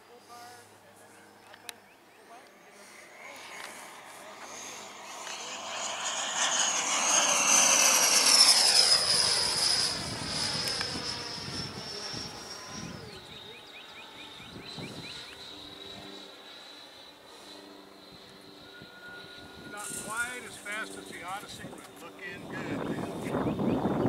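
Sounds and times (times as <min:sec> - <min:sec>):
model jet whining: 0:02.4 - 0:24.0.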